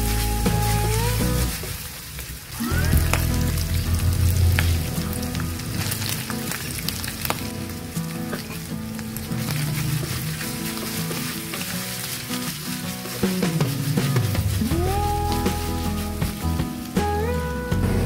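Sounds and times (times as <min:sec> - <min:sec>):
wooden spoon stirring: 0:02.6 - 0:17.2.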